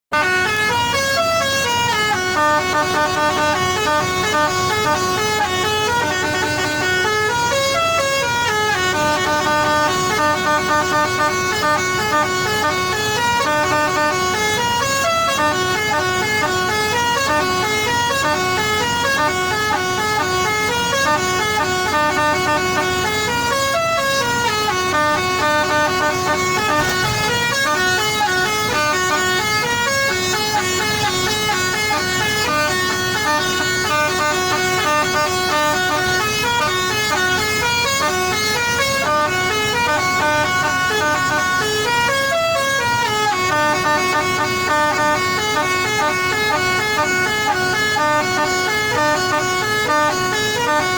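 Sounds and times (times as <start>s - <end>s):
musical truck horn playing tune: 0.1s - 50.9s.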